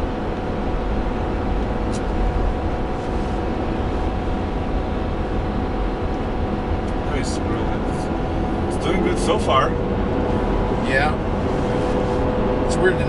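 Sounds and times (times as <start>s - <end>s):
diesel engine droning under load: 0.0s - 13.0s
engine cooling fan running: 0.0s - 13.0s
road rumble: 0.0s - 13.0s.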